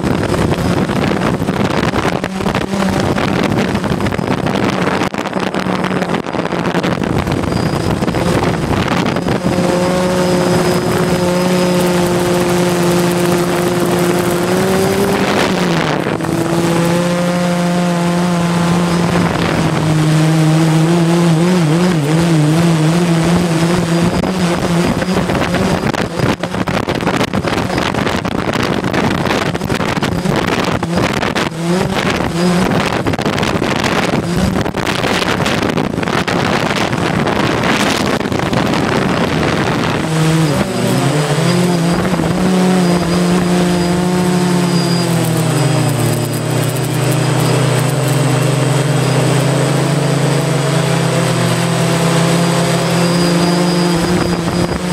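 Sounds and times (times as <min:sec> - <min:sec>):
drone propellers humming: 0:00.0 - 0:54.9
wind rushing over microphone: 0:00.0 - 0:54.9.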